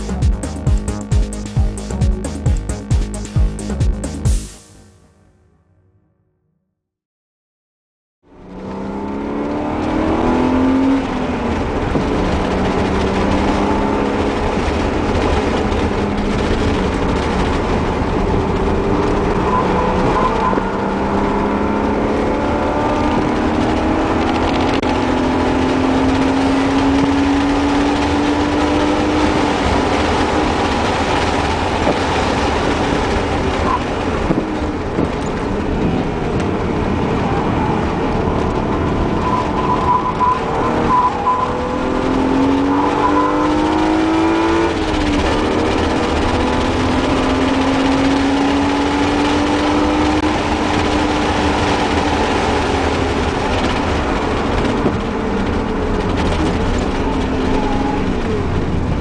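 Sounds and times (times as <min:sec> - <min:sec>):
car engine revving: 0:00.0 - 0:04.2, 0:08.3 - 0:59.0
road and wind noise: 0:08.2 - 0:59.0.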